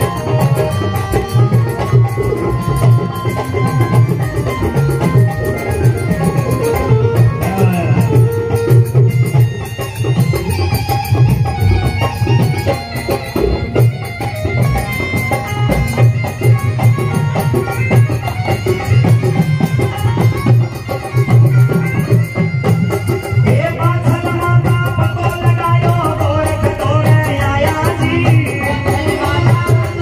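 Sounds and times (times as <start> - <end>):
hand drum rhythm: 0.0 - 30.0.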